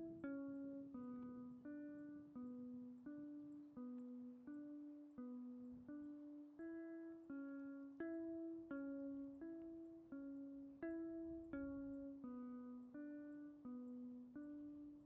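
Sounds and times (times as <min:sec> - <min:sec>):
gentle plucked tune: 0:00.0 - 0:15.0.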